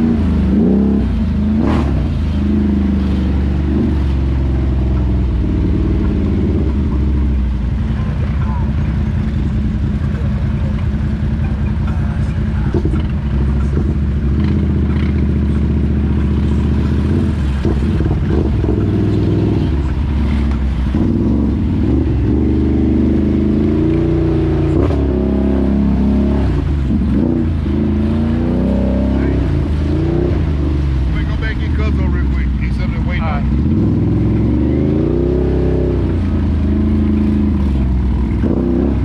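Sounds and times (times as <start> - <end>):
atv engine revving: 0.0 - 39.0.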